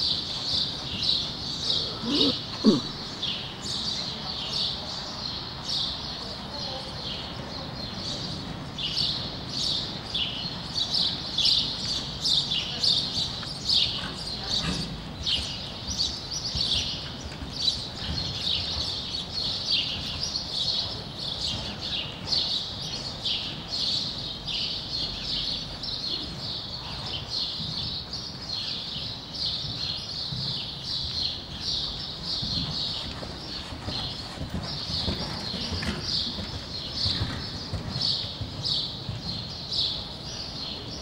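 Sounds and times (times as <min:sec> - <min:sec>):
horse hooves cantering on sand: 0:00.0 - 0:01.8, 0:07.2 - 0:41.0
small birds chirping: 0:00.0 - 0:41.0.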